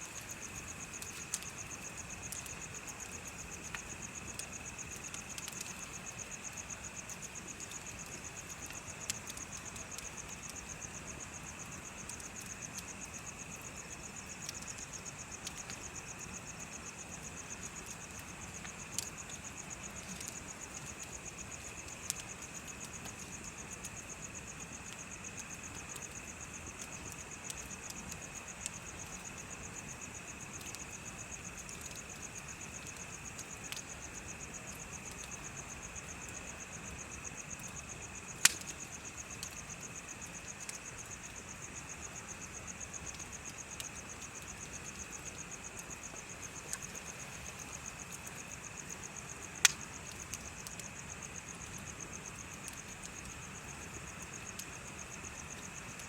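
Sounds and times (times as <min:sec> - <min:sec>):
bonfire wood popping: 0:00.0 - 0:56.0
insects trilling: 0:00.0 - 0:56.0.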